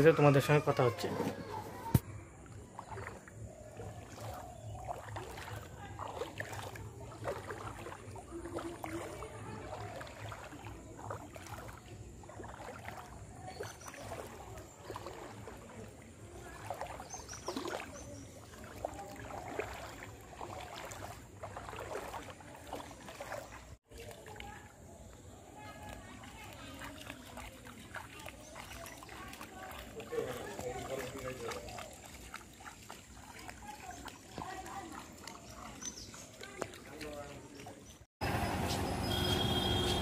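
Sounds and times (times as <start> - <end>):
footsteps wading through water: 0.0 - 40.0.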